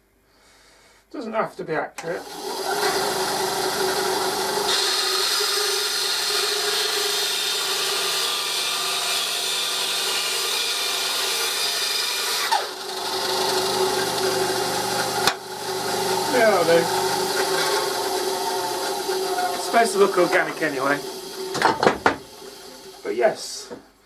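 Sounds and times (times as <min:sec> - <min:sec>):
power tool whining on wood: 0:02.2 - 0:23.1.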